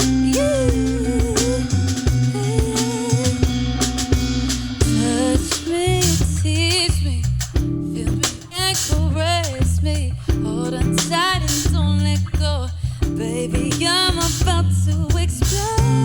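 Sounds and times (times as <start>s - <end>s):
drum kit: 0.0s - 16.0s
electric bass: 0.0s - 16.0s
guitar: 0.0s - 16.0s.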